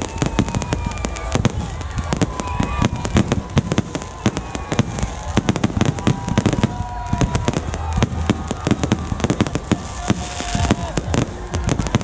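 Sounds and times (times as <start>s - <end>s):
faint fireworks whistling: 0.0s - 12.0s
fireworks bangs and crackles: 0.0s - 12.0s.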